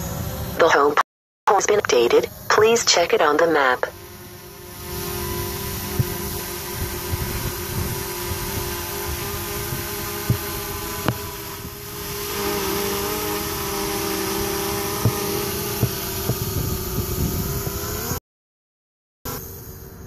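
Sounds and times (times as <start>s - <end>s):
drone propellers buzzing: 0.0s - 18.2s, 19.3s - 20.0s.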